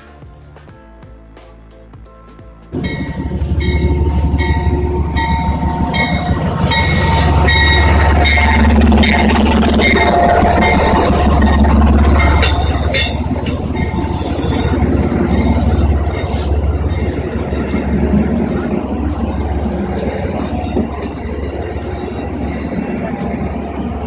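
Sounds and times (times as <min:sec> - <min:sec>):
train wheels rumbling on rails: 0:00.0 - 0:24.0
faint high wheel squeal: 0:02.8 - 0:24.0.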